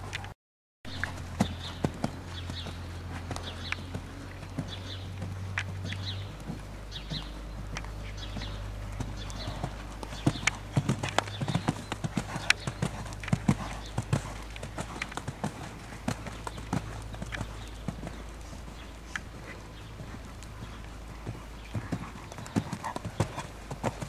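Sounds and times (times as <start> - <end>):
horse hooves on sand: 0.9 - 24.0
steady low rumble: 0.9 - 24.0.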